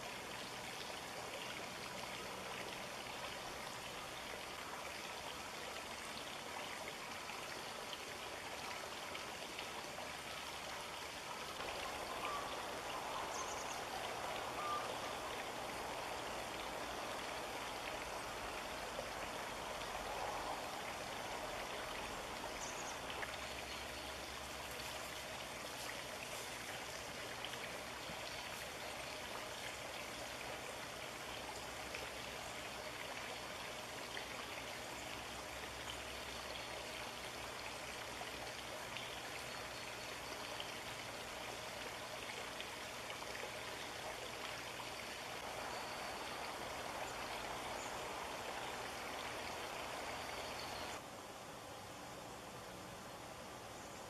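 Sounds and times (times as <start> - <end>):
running water rushing: 0.0 - 51.2.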